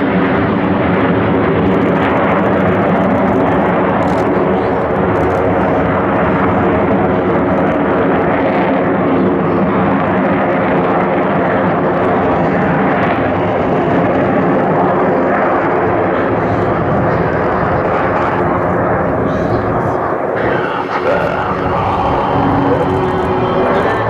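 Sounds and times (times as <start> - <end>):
jet engines flying overhead: 0.0 - 24.0.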